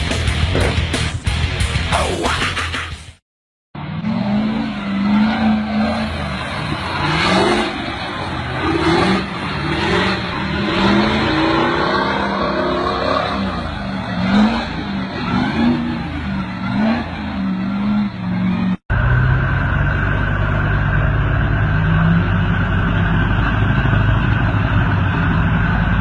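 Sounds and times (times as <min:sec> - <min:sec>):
road and driving rumble: 0:00.0 - 0:02.3, 0:03.7 - 0:26.0
truck engine revving: 0:03.8 - 0:26.0.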